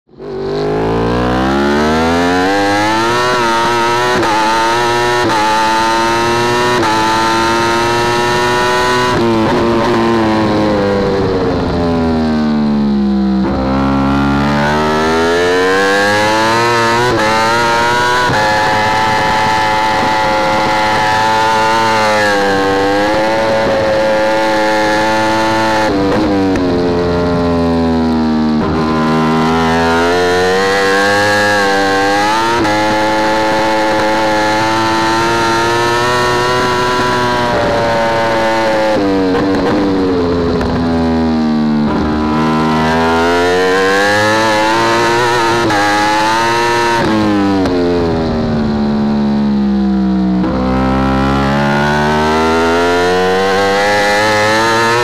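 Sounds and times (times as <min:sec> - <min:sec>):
motorcycle engine revving: 0:00.1 - 0:55.0.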